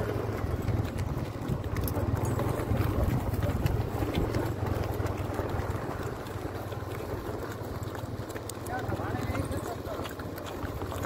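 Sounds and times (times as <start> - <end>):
horse hooves clopping on dirt: 0.0 - 11.0
steady low rumble: 0.0 - 11.0.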